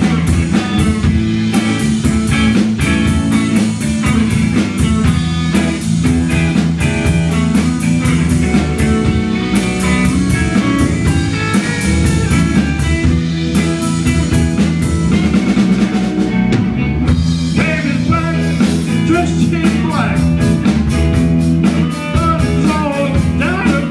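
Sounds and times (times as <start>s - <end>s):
drum kit beat: 0.0s - 23.9s
electric bass: 0.0s - 23.9s
electric guitars: 0.0s - 23.9s.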